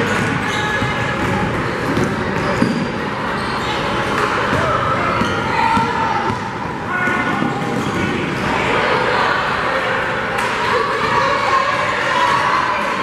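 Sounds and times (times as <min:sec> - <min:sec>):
crowd chatter echoing: 0:00.0 - 0:13.0.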